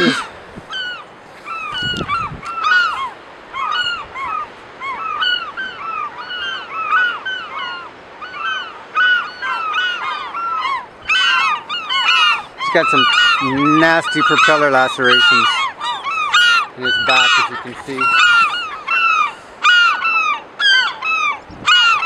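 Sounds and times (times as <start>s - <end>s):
gulls calling: 0.0s - 22.0s.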